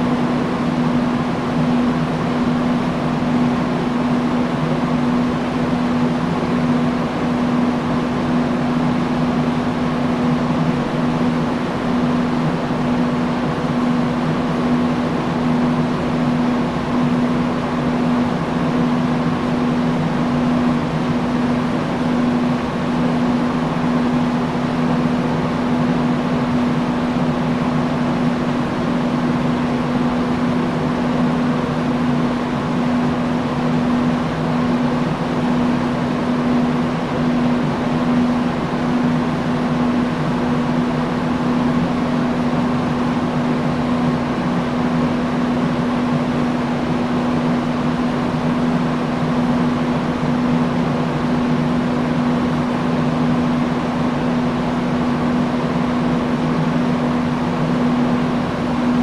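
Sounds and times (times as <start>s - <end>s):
industrial fan running: 0.0s - 59.0s.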